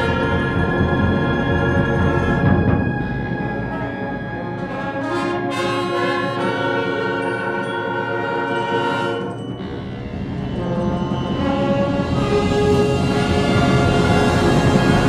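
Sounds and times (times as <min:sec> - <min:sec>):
concert band brass chords: 0:00.0 - 0:15.0.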